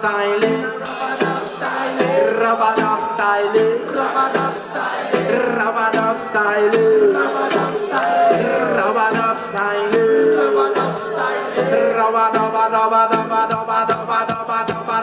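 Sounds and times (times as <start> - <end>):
reggae band playing: 0.0 - 15.0.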